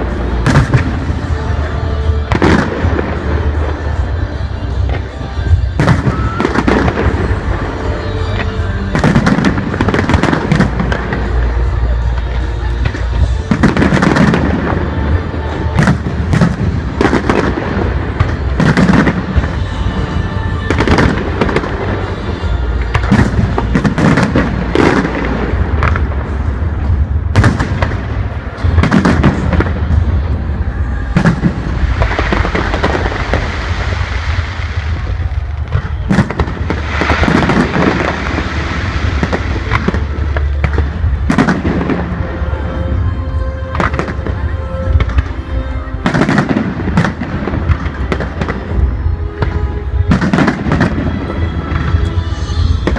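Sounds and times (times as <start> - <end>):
fireworks bursting: 0.0 - 52.9.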